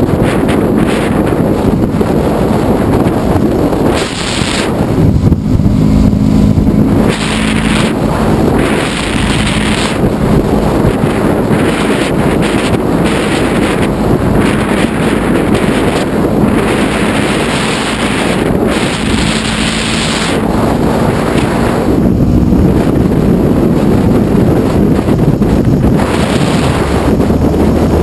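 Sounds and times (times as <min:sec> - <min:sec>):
motorcycle running: 0:00.0 - 0:28.0
wind buffeting microphone: 0:00.0 - 0:28.0.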